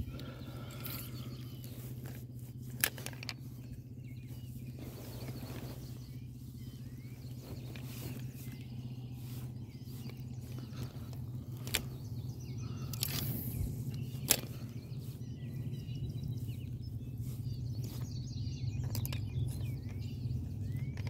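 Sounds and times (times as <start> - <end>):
faint bird chirps: 0.0 - 21.0
steady low hum: 0.0 - 21.0.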